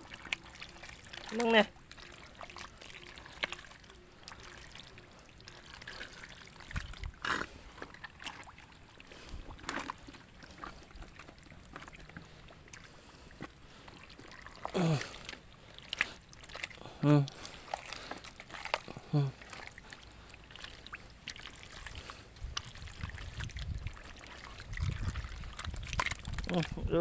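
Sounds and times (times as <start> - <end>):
shallow water trickling and splashing: 0.0 - 27.0.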